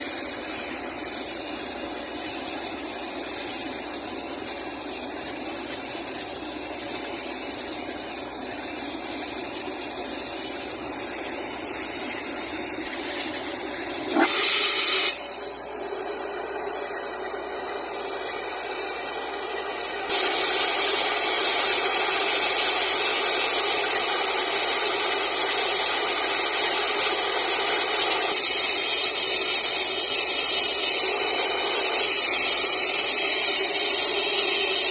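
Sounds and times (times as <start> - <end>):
compressed air hissing rush: 0.0 - 6.2, 6.9 - 34.9.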